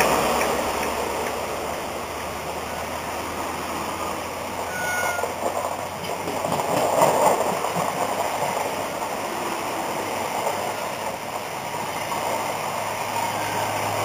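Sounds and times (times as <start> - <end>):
train coaches rushing past: 0.0 - 14.0.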